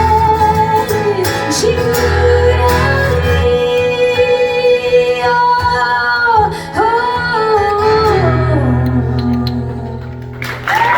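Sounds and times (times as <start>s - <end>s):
woman singing wordless notes: 0.0s - 10.0s
guitar band sustained chords: 0.0s - 10.6s.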